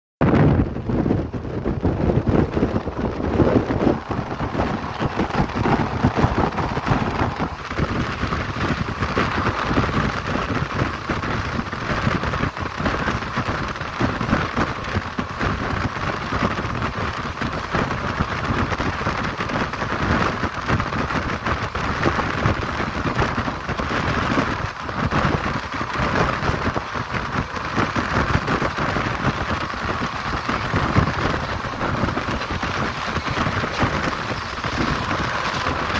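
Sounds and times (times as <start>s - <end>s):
train wheels rumbling on rails: 0.2s - 35.9s
wind rushing over microphone: 0.2s - 35.9s.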